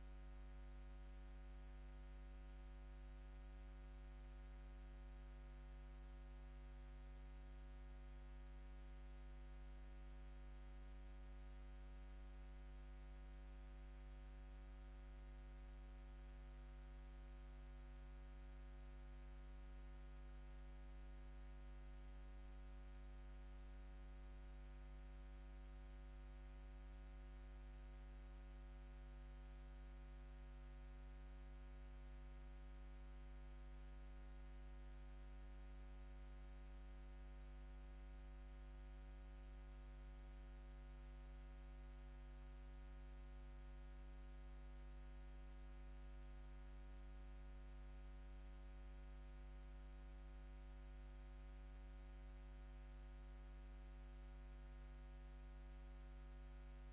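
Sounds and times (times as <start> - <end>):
faint electrical hum with whine: 0.0 - 56.9.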